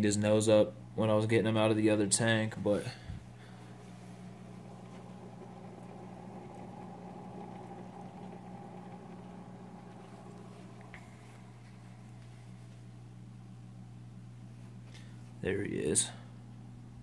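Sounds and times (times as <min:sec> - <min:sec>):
aquarium filter motor hum: 0:00.8 - 0:17.0.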